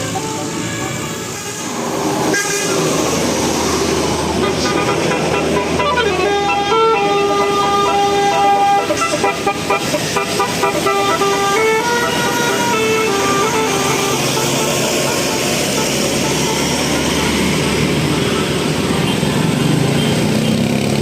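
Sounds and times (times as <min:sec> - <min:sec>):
musical bus horn: 0:00.0 - 0:03.3, 0:04.2 - 0:19.3
engine and traffic noise: 0:00.0 - 0:21.0.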